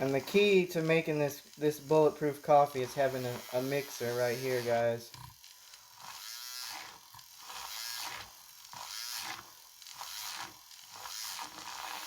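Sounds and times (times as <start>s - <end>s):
electric mixer whirring: 0.0s - 12.0s.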